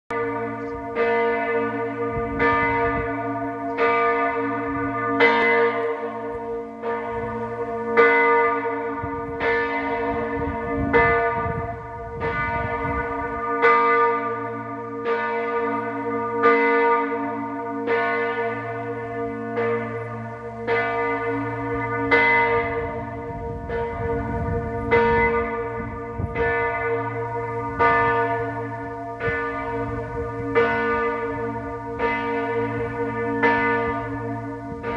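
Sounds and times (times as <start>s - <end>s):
church bell ringing: 0.1s - 34.9s.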